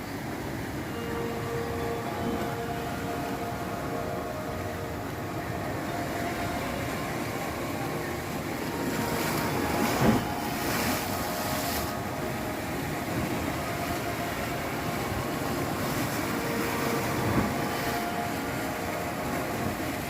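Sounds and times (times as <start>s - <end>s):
sea waves surging against rocks: 0.0s - 20.0s
wave crashing: 0.0s - 20.0s.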